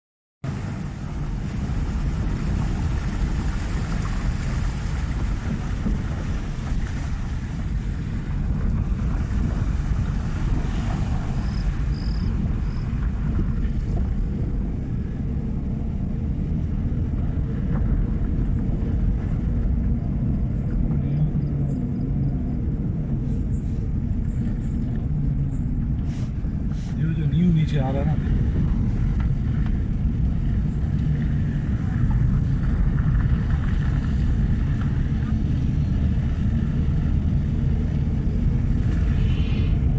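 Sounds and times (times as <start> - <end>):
vehicle driving rumble: 0.4 - 39.9
wind noise on microphone: 0.4 - 39.9.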